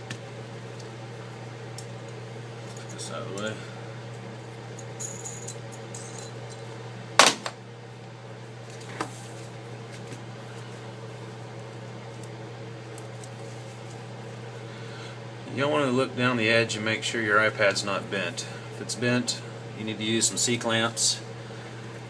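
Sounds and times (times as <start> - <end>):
fan hum: 0.0 - 22.0.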